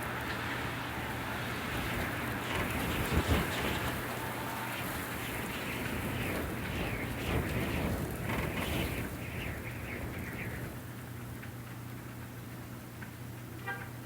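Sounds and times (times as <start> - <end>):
wind gusting outside: 0.0 - 12.9.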